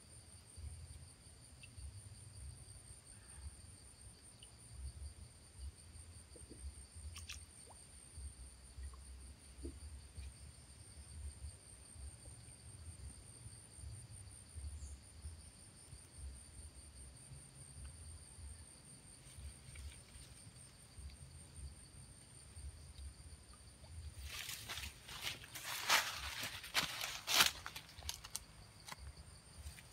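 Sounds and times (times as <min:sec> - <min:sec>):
insects chirring: 0:00.0 - 0:29.9.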